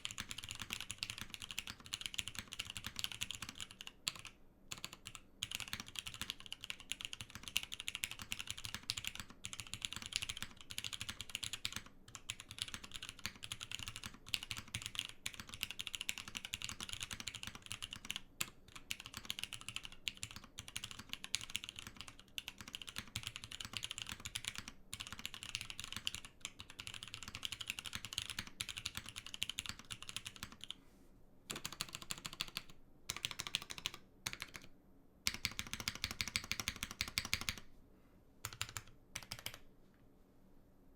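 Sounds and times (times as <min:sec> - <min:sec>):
fast typing on mechanical keyboard: 0:00.0 - 0:30.8, 0:31.5 - 0:34.7, 0:35.3 - 0:37.6, 0:38.4 - 0:39.6.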